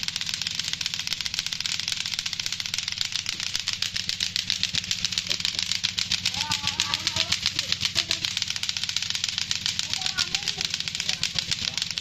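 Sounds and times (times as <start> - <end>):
plastic clackers clattering: 0.0 - 12.0.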